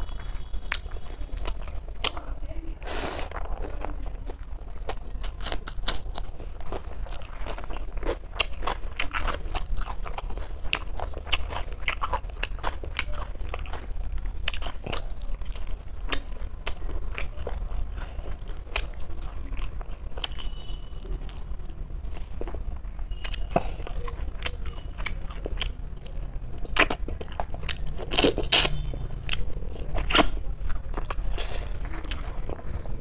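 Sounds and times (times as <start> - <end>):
wet chewing and biting: 0.0 - 33.0.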